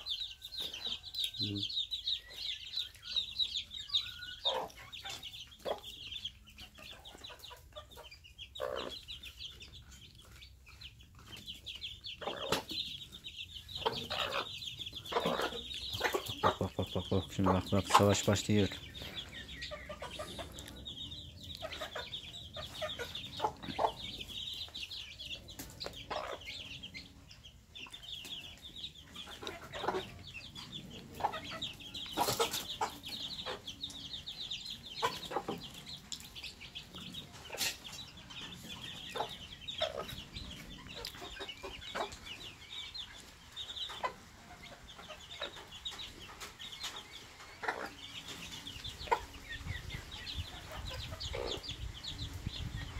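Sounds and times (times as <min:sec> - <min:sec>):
chicks peeping: 0:00.0 - 0:52.9
hen clucking: 0:00.0 - 0:52.9.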